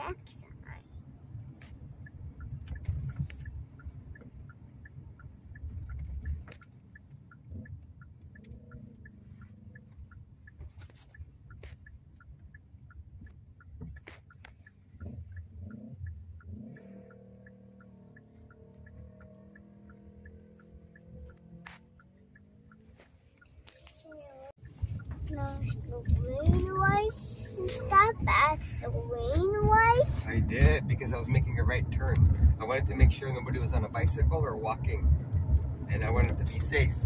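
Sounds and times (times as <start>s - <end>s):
car road rumble: 0.0s - 37.0s
turn signal ticking: 0.0s - 37.0s.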